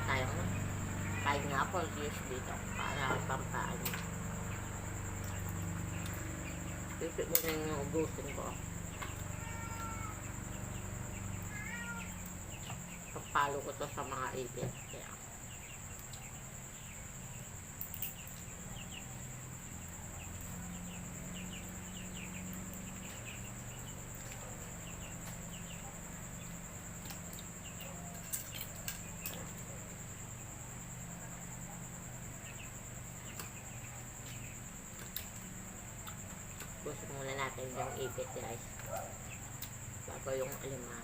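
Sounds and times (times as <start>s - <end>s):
high insect drone: 0.0s - 41.0s.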